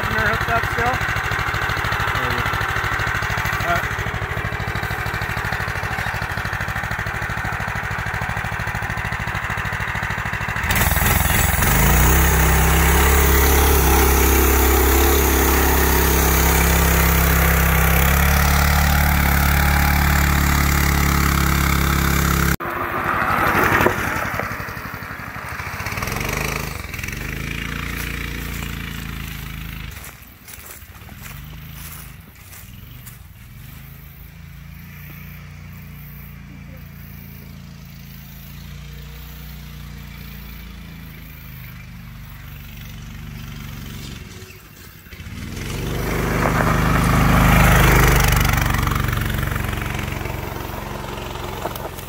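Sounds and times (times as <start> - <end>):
go-kart engine revving: 0.0 - 52.0.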